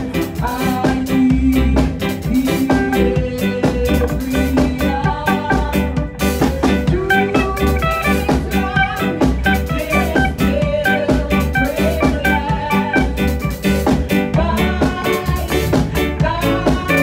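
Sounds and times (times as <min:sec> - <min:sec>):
drum kit beat: 0:00.0 - 0:17.0
electric bass: 0:00.0 - 0:17.0
electric guitar: 0:00.0 - 0:17.0.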